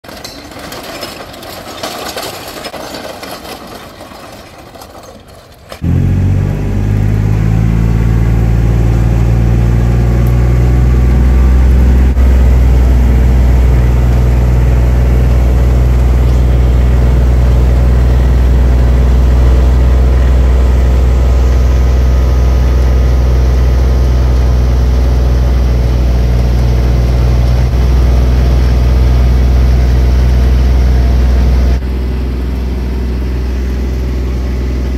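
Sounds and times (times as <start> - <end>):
machine engine running: 0.0 - 34.9
outdoor noise: 0.0 - 34.9.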